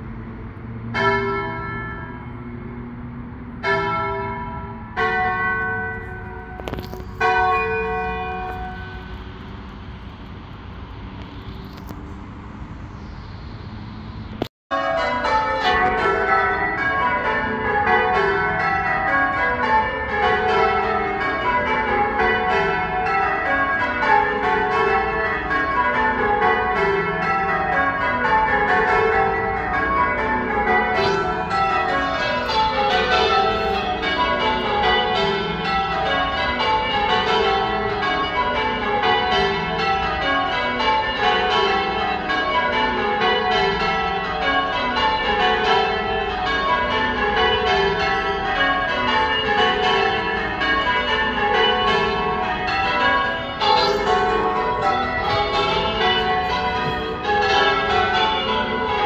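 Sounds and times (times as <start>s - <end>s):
church bells ringing: 0.0s - 10.5s, 14.7s - 59.0s.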